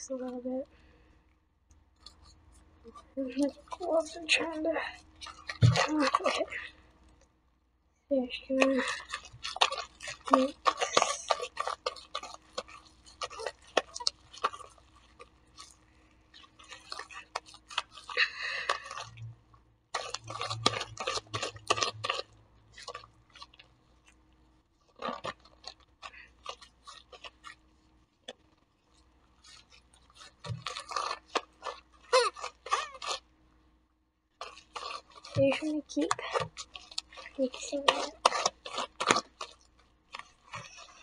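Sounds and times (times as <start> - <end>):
slime squelching and crackling: 0.0 - 1.0, 1.7 - 7.4, 8.2 - 33.6, 34.3 - 41.0.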